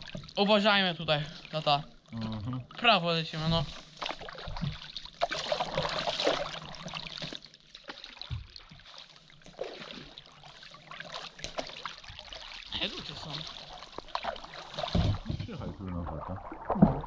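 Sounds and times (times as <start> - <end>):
paddles splashing in water: 0.0 - 17.0
water dripping off paddles: 0.0 - 17.0.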